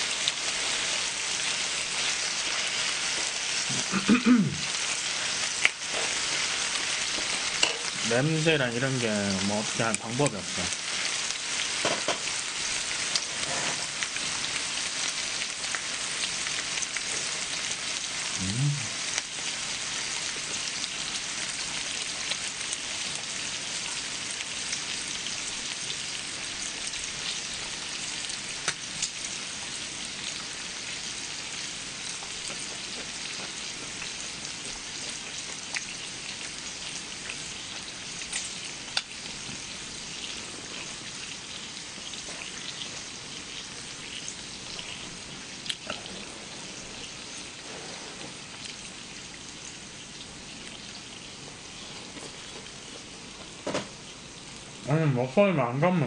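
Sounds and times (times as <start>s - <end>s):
meat sizzling on a griddle: 0.0s - 55.3s.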